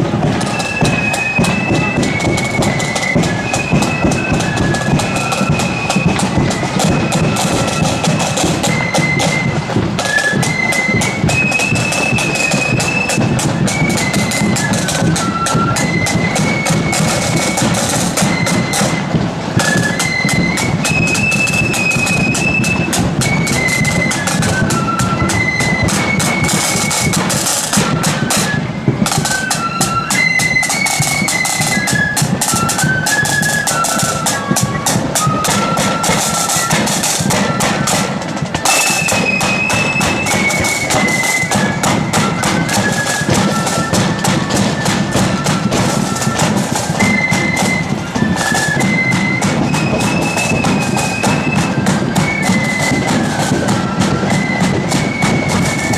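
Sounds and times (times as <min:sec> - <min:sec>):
flutes playing melody: 0:00.0 - 0:55.9
rapid snare drumming: 0:00.0 - 0:55.9.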